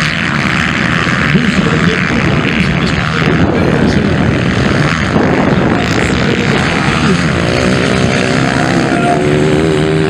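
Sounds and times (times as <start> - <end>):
motocross bike engines racing: 0.0 - 10.0
motorbike engine revving: 0.0 - 10.0.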